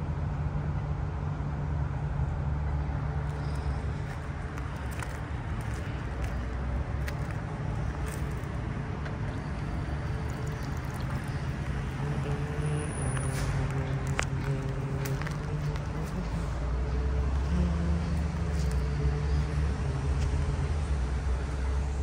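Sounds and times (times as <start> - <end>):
low rumble of city traffic: 0.0 - 22.0.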